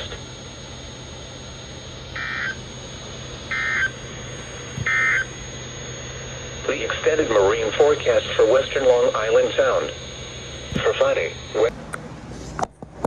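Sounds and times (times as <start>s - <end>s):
buzzy data bleeps: 0.0s - 11.7s
radio hiss and hum: 0.0s - 11.8s.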